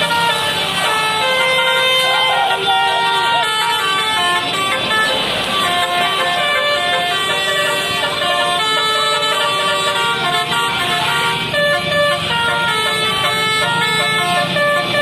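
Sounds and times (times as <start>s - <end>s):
multi-tone bus horn playing tune: 0.0s - 15.0s.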